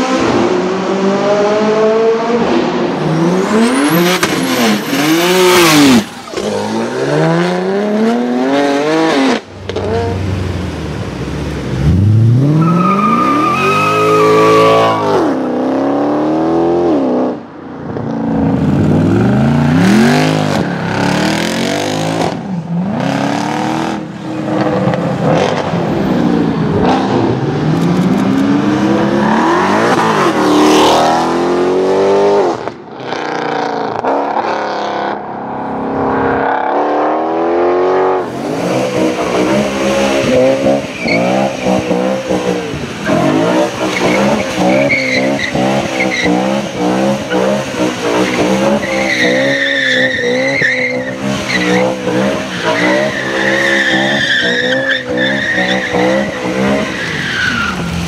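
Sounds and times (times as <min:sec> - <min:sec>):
car engine revving and accelerating: 0:00.0 - 0:58.0
car revving high while drifting: 0:00.0 - 0:58.0.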